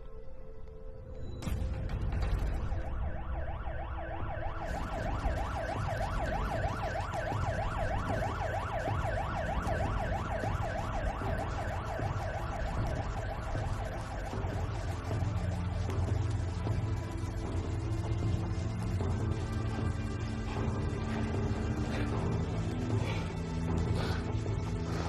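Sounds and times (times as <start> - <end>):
siren yelping: 2.2 - 25.0.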